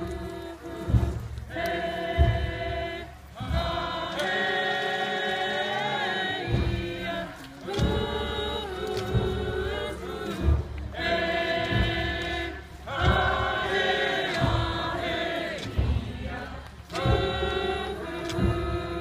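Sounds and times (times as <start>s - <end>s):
group singing in chorus: 0.0s - 19.0s
slow low drum beat: 0.0s - 19.0s.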